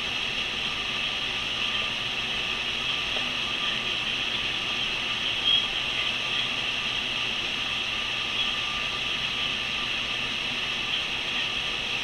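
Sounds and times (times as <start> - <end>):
faint constant tone: 0.0 - 12.0.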